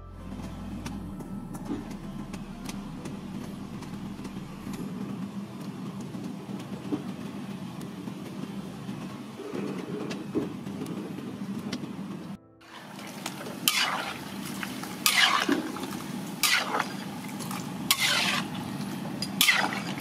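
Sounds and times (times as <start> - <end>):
low rumbling noise: 0.0 - 20.0.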